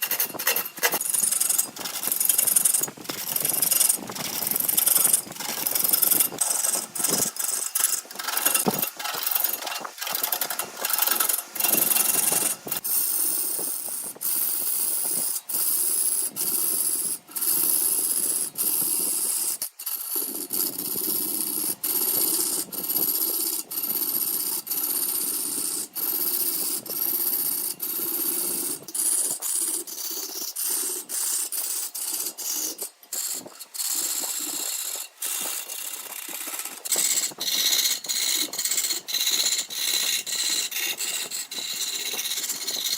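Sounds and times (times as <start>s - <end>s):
tool scraping turning wood: 0.0s - 42.9s.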